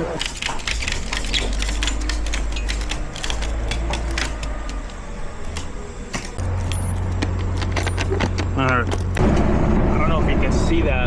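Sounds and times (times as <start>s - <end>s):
truck engine humming: 0.0s - 11.0s
clicks and rattles: 0.2s - 9.2s.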